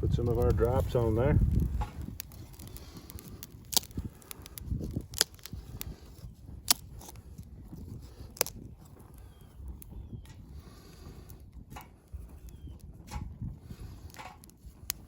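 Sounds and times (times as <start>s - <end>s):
small fire crackling and popping: 0.0s - 15.0s.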